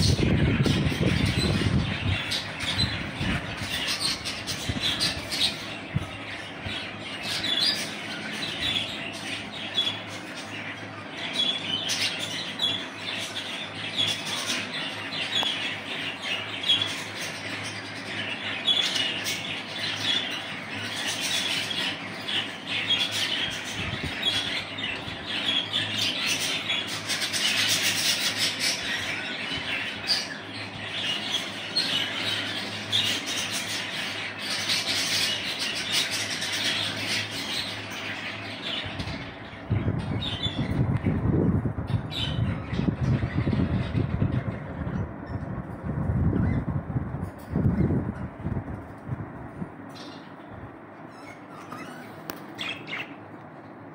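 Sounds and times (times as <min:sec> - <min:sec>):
budgerigars chirping and squawking: 0:00.0 - 0:46.7, 0:49.8 - 0:53.4.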